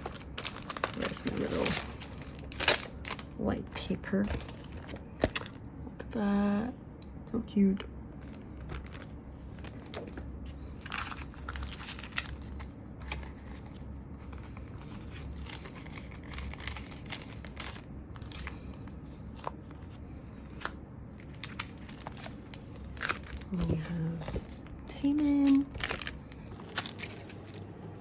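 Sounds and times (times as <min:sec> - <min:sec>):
packaging crinkling and rustling: 0:00.0 - 0:05.6, 0:08.2 - 0:27.8.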